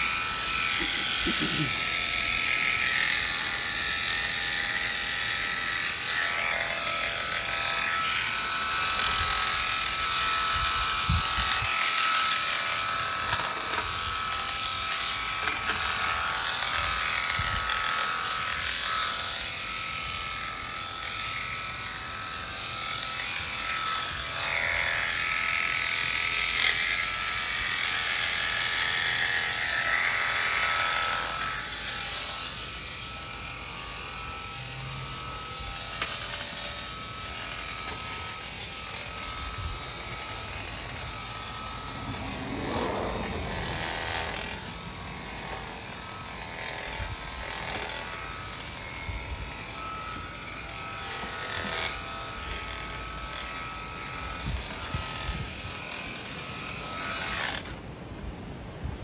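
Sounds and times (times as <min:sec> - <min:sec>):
electric clippers buzzing: 0:00.0 - 0:59.0.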